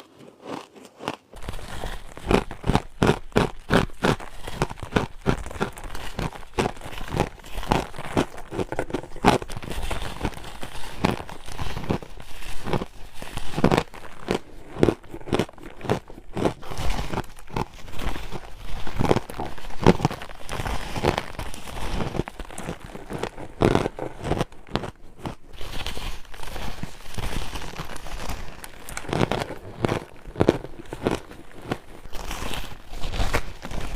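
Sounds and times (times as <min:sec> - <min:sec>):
chewing and crunching ice: 0:00.0 - 0:33.9.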